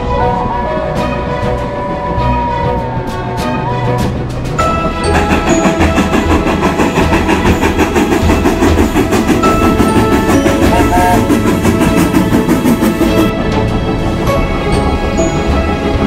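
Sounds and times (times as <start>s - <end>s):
background music: 0.0s - 16.0s
steam locomotive running: 0.0s - 16.0s.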